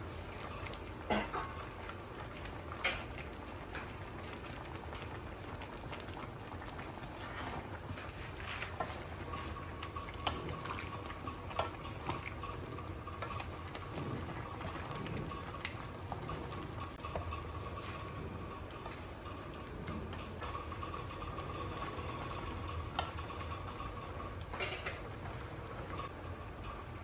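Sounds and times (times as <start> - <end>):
vegetables bubbling in broth: 0.0 - 27.0.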